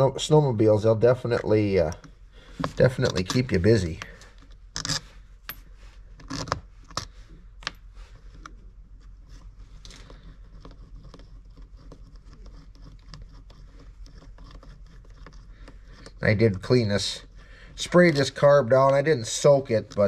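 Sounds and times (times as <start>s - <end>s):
metal screws clicking and scraping: 1.8s - 20.0s.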